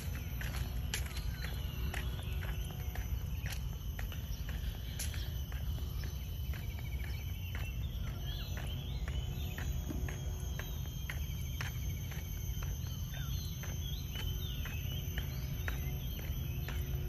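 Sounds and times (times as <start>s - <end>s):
birds chirping: 0.0s - 17.0s
constant low rumble: 0.0s - 17.0s
insects droning: 0.0s - 17.0s.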